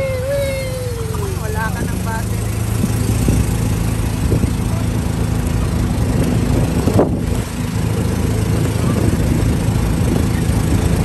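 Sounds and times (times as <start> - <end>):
small engine humming: 0.0 - 11.0
wind rushing across microphone: 0.0 - 11.0.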